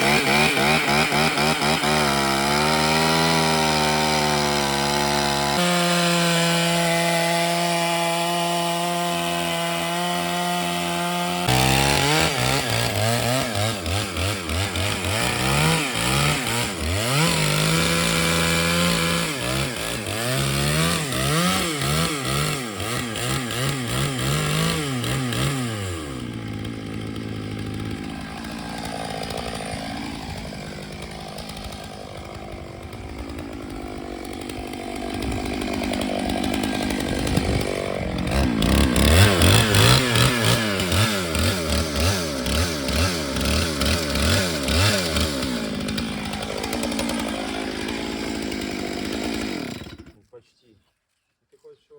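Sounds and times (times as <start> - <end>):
chainsaw cutting through log: 0.0 - 50.3.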